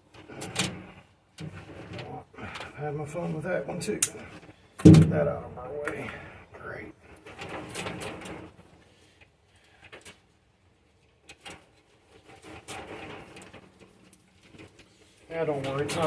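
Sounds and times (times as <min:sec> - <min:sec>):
wires rustling and scraping: 0:00.0 - 0:16.0.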